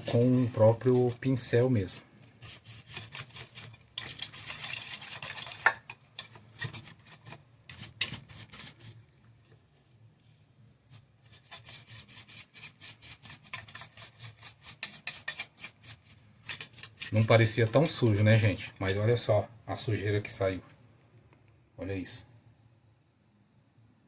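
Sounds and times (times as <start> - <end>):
paintbrush scrubbing plastic: 0.0 - 19.3.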